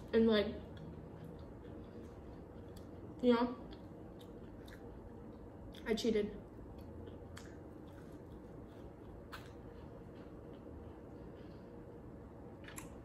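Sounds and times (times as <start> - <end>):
soft mouth clicks while chewing: 0.7 - 5.9, 6.7 - 11.5, 12.6 - 13.0.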